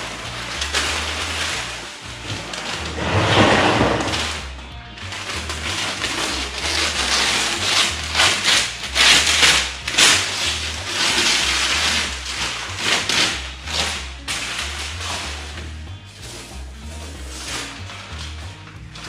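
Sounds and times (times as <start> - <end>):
masking paper tearing: 0.0 - 19.0.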